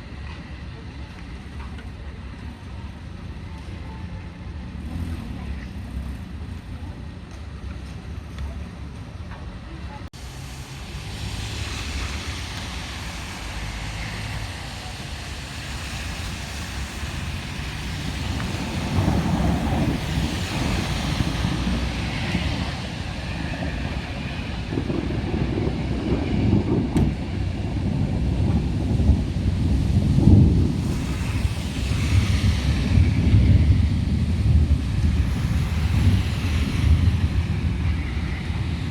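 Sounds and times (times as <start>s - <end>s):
storm wind buffeting microphone: 4.4s - 38.9s.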